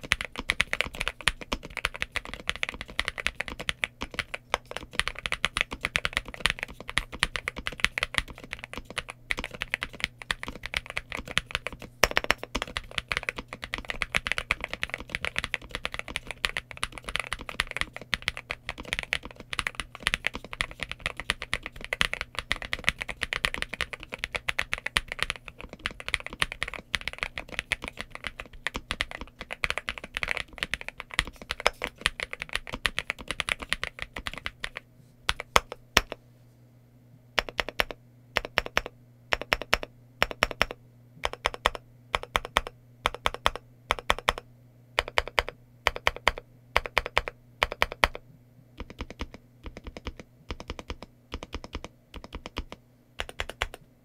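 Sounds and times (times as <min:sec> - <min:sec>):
fast typing on mechanical keyboard: 0:00.0 - 0:36.2, 0:37.4 - 0:44.4, 0:45.0 - 0:48.2, 0:48.8 - 0:53.8.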